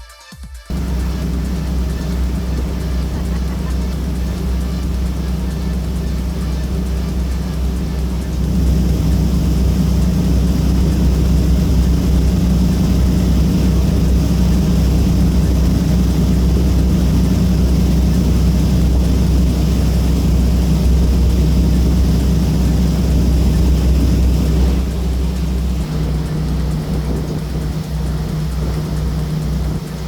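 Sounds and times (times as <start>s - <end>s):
boat engines droning: 0.7s - 30.0s
water and wind hiss: 0.7s - 30.0s.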